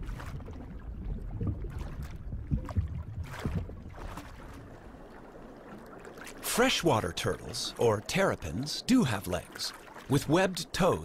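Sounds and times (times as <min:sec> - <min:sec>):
low rumbling water: 0:00.0 - 0:11.0
water swishing: 0:00.0 - 0:11.0.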